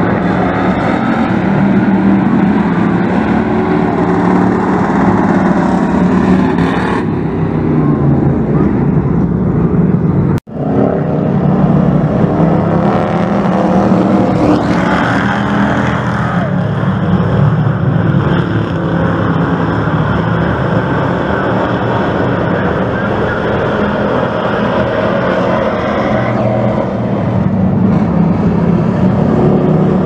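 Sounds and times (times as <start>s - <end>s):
race truck engines roaring: 0.0s - 30.0s.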